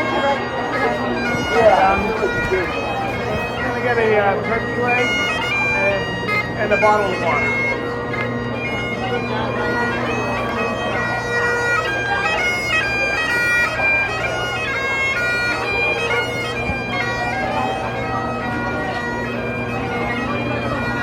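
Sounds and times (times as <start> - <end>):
bagpipes playing: 0.0 - 21.0.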